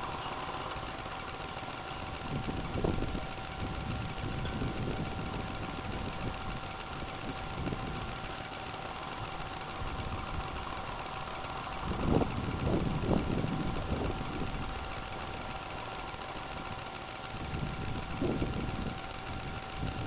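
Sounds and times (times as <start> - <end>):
constant whine: 0.0 - 20.0
motorbike engine running: 0.0 - 20.0.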